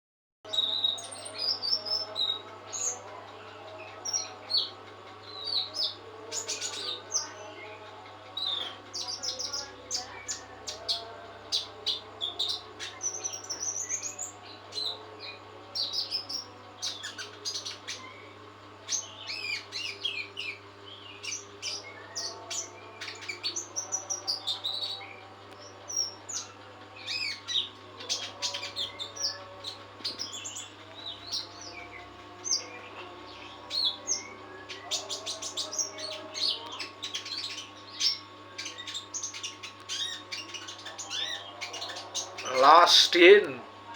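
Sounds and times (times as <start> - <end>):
songbird chirping and trilling: 0.5 - 43.9.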